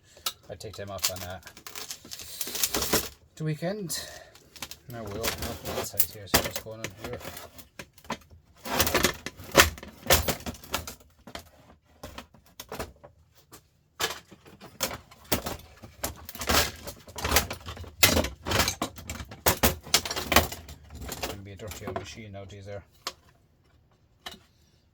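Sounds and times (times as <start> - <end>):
clatter of hard plastic parts: 0.0 - 3.4, 4.0 - 24.9.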